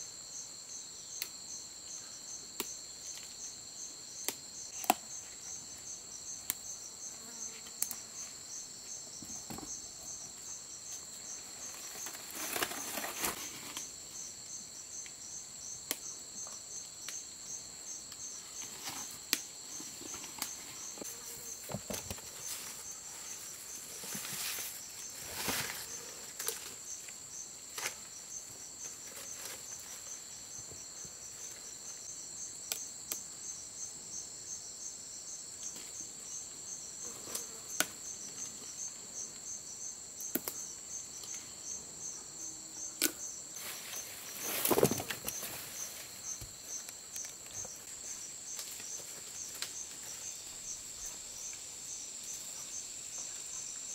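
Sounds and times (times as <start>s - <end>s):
crickets chirring: 0.0s - 53.9s.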